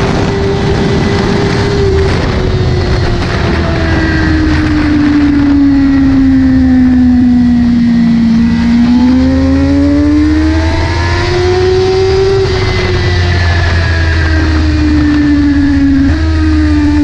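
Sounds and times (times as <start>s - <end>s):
motorcycle engine: 0.0s - 17.0s
wind rush on microphone: 0.0s - 17.0s.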